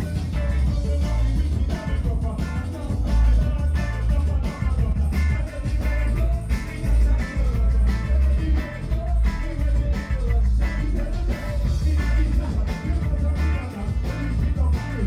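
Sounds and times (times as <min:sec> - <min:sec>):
live band playing dub: 0:00.0 - 0:15.0.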